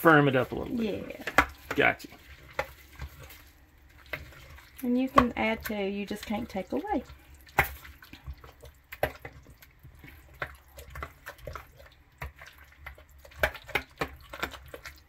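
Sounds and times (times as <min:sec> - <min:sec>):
dough squelching: 0:00.0 - 0:15.0.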